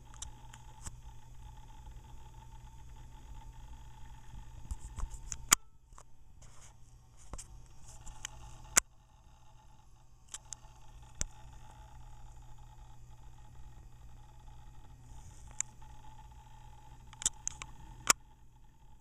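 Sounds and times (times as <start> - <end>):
hard drive clicking: 0.0 - 6.1, 7.2 - 19.0
faint steady hum: 0.0 - 19.0.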